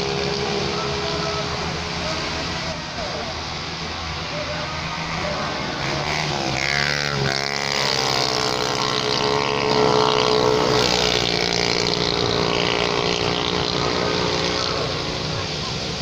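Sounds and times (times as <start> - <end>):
scooter engines passing at full throttle: 0.0 - 16.0.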